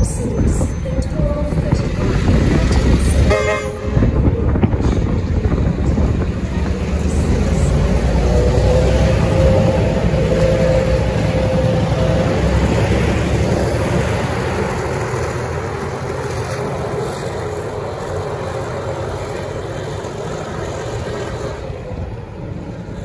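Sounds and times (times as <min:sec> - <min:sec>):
diesel locomotive running: 0:00.0 - 0:23.0
train wheels rumbling on track: 0:00.0 - 0:23.0.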